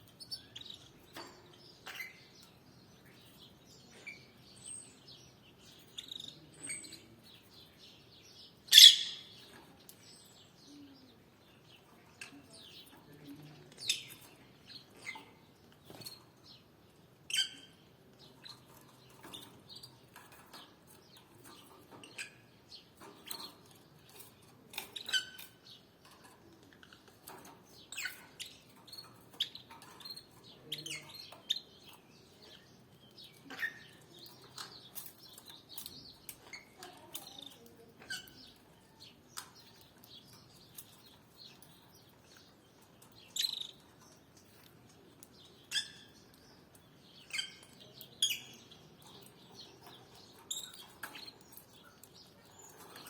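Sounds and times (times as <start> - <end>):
canaries chirping: 0.0 - 53.0.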